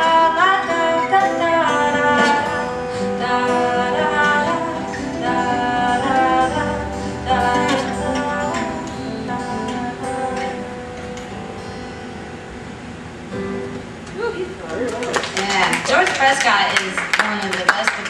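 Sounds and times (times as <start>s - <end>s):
live band with acoustic guitar: 0.0s - 18.0s.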